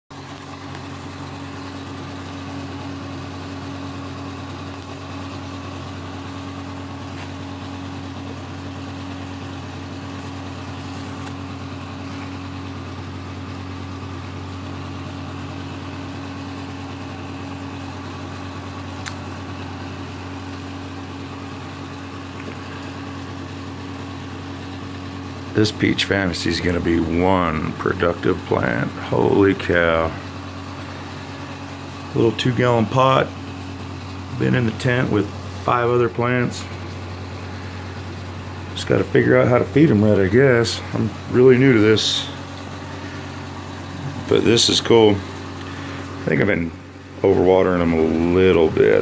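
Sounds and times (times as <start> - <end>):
low machine hum: 0.1 - 49.0.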